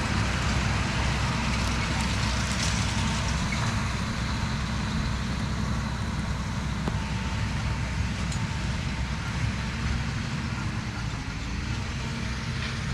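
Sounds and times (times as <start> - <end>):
tractor and baler rumbling: 0.0 - 12.9.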